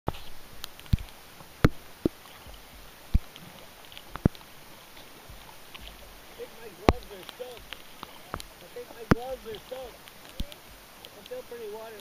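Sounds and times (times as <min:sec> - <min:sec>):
rain hissing on a lake: 0:00.1 - 0:12.0
raindrops tapping close by: 0:00.1 - 0:12.0
small high raindrop ticks: 0:00.1 - 0:12.0.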